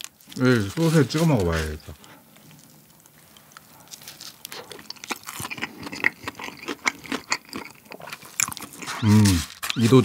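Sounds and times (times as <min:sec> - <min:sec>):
wet sticky chewing with crackles: 0:00.0 - 0:10.0.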